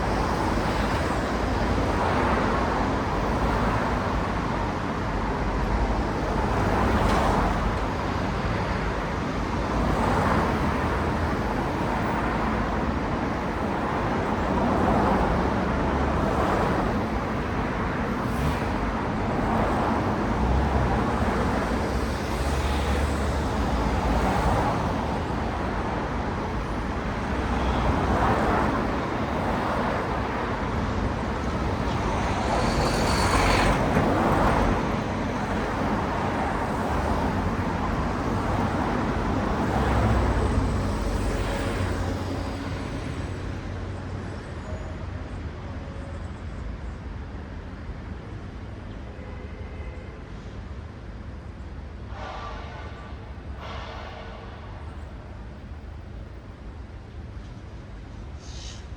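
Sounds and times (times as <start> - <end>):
cars passing on road: 0.0 - 58.9.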